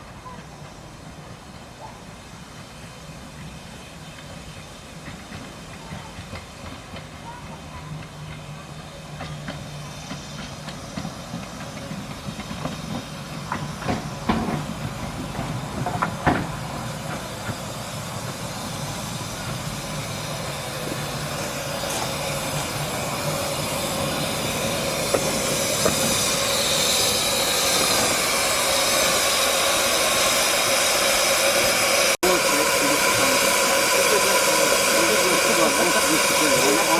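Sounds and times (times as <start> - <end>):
moving train rushing hiss: 0.0 - 36.9
train clicks and clanks: 0.0 - 36.9.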